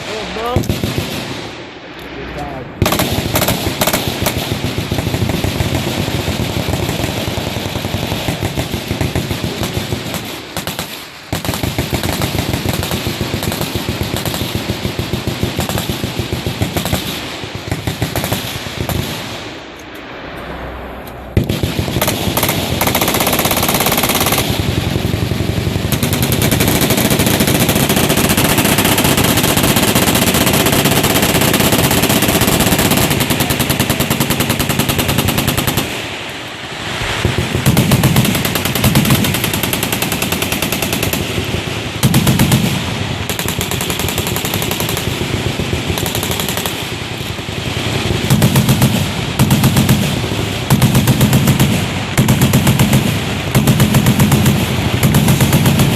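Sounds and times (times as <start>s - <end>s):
machine guns firing: 0.0s - 1.5s, 2.8s - 19.4s, 21.4s - 36.1s, 37.2s - 55.9s.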